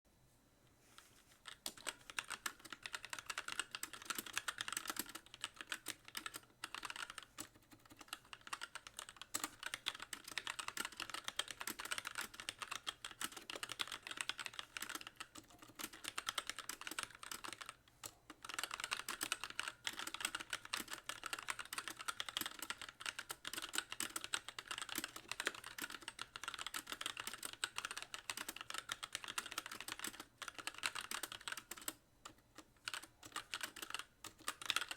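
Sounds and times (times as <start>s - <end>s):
mechanical keyboard typing: 1.4s - 34.9s.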